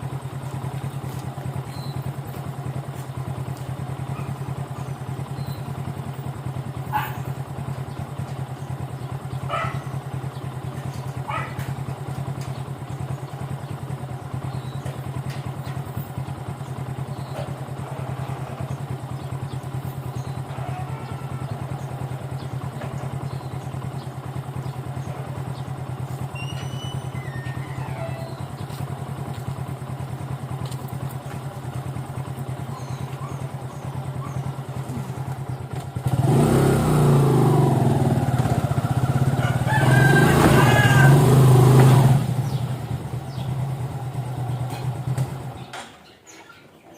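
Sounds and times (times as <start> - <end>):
motorcycle engine idling: 0.0 - 46.4.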